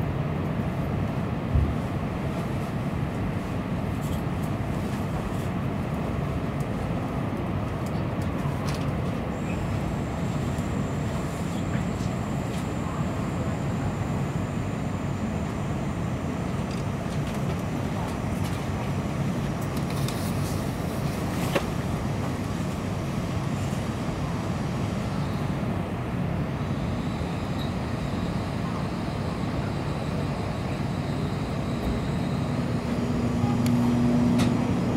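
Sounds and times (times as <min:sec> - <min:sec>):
train low rumble: 0:00.0 - 0:34.9.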